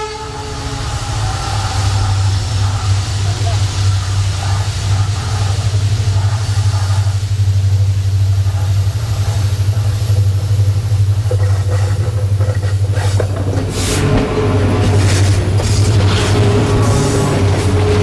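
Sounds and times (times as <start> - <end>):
diesel locomotive engine drone: 0.0 - 18.0
train rushing past: 0.0 - 18.0.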